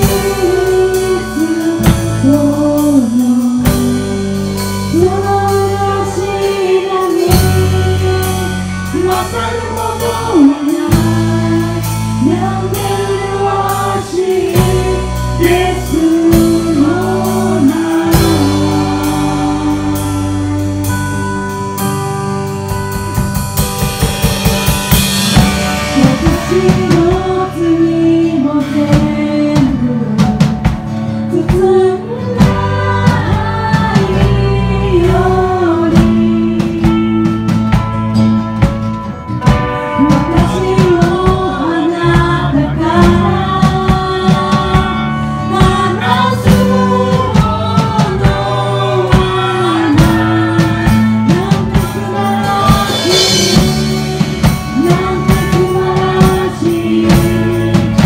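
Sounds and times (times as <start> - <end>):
women singing: 0.0 - 21.3, 25.9 - 30.6, 31.3 - 37.5, 39.9 - 58.0
drum kit: 0.0 - 58.0.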